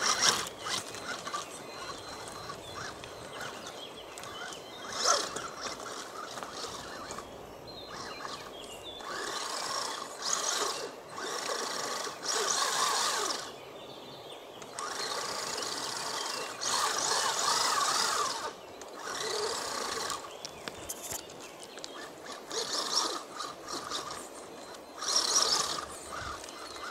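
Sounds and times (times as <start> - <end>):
toy truck motor whirring: 0.0 - 7.3, 7.9 - 13.6, 14.6 - 21.2, 21.8 - 26.9.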